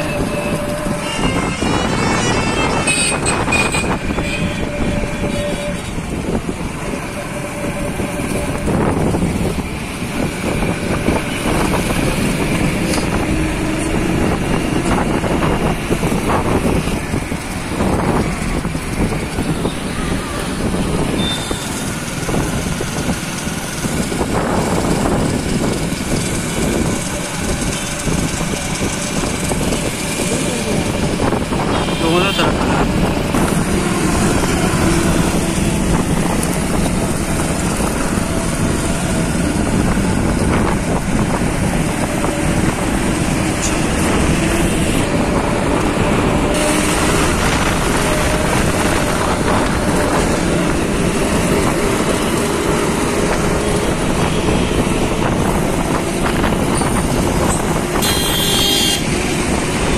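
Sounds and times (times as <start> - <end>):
wind rush: 0.0 - 58.1, 59.0 - 59.9
traffic: 0.0 - 59.9
vehicles passing: 0.0 - 59.9.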